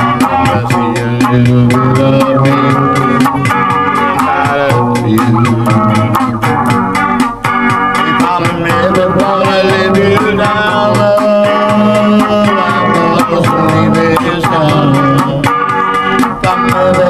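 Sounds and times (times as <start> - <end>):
man singing: 0.0 - 6.8, 8.0 - 15.6, 16.2 - 17.0
guitar: 0.0 - 17.0
steady drum beat: 0.0 - 17.0.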